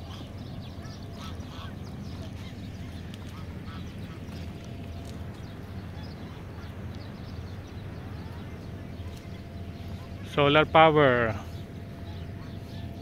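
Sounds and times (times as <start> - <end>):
birds calling: 0.0 - 13.0
steady low rumble: 0.0 - 13.0.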